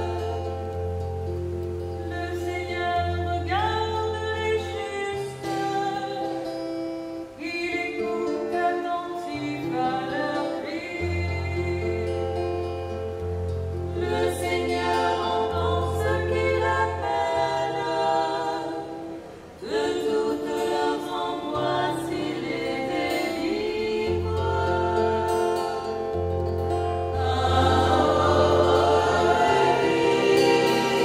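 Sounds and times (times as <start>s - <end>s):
women singing a hymn in harmony: 2.0s - 6.5s, 7.4s - 13.1s, 13.8s - 26.3s, 27.0s - 31.0s.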